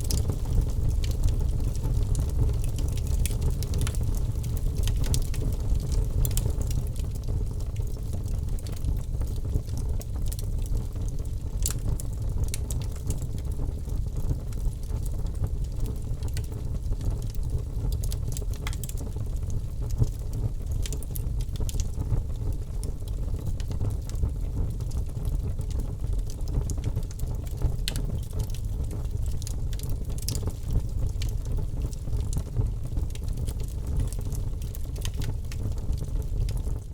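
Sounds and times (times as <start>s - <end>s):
campfire crackling: 0.0s - 36.8s.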